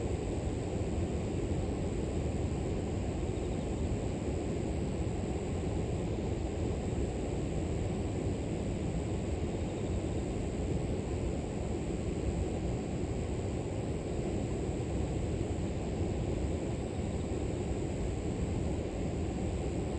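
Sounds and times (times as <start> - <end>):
high insect chorus: 0.1 - 5.8, 6.4 - 19.9.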